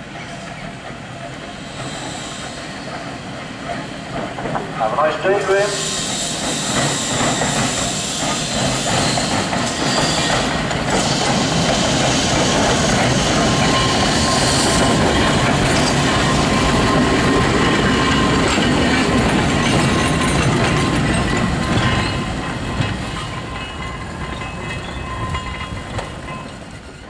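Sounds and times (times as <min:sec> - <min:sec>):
tram wheels rumbling on rails: 0:00.0 - 0:27.0
high wheel squeal: 0:01.4 - 0:03.2, 0:05.7 - 0:26.0.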